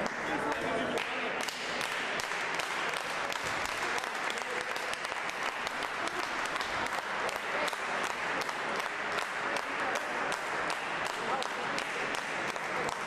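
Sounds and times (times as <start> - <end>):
crowd applauding: 0.0 - 13.0
single sharp claps: 0.0 - 13.0.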